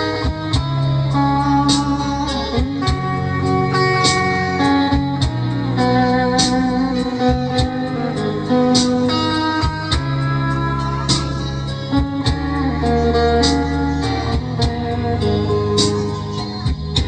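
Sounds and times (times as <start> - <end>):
backing track with bass and drums: 0.0 - 17.0
guitar lead lick: 0.0 - 17.0.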